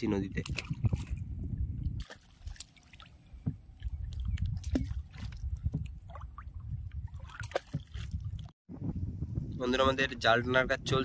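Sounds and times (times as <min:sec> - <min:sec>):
low rumble of water and wind: 0:00.0 - 0:11.0.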